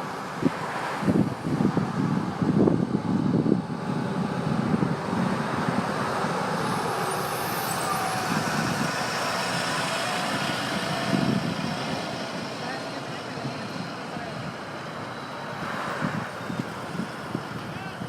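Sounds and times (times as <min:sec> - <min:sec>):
heavy truck engines running: 0:00.0 - 0:18.0
traffic rushing: 0:00.0 - 0:18.0.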